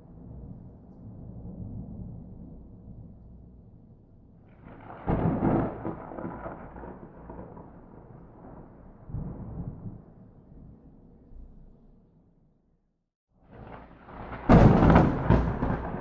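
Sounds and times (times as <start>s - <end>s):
thunder crack and rumble: 0.0s - 11.6s, 13.5s - 16.0s.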